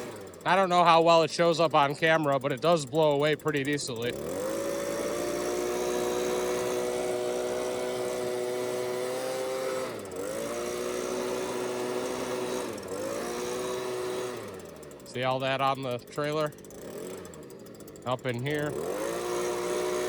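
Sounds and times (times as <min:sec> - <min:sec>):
leaf blower engine whine: 0:00.0 - 0:20.0.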